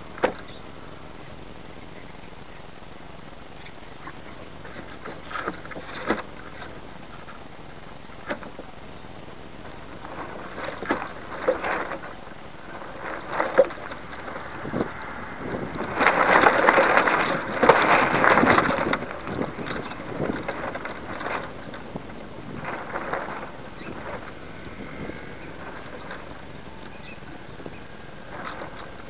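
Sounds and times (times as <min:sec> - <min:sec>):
gusty wind on microphone: 0:00.0 - 0:29.0
sails and rigging flapping: 0:00.0 - 0:29.0.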